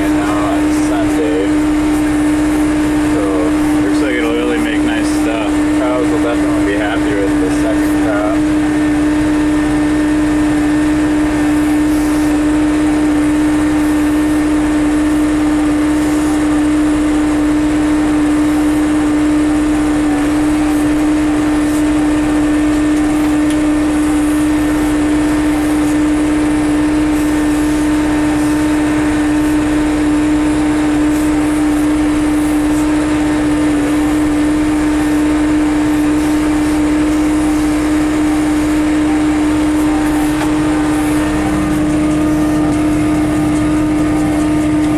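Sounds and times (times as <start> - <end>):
strong steady hum: 0.0 - 44.9
tractor diesel engine running: 0.0 - 44.9.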